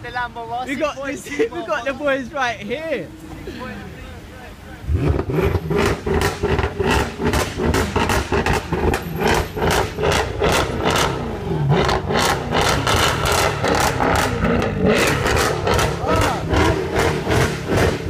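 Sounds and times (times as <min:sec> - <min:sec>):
car engine revving: 0:02.6 - 0:18.0.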